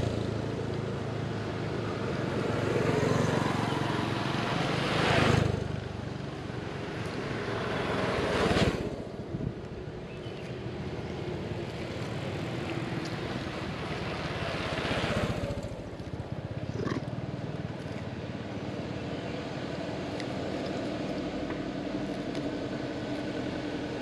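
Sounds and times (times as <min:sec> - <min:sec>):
motorbike engine humming: 0:00.0 - 0:24.0.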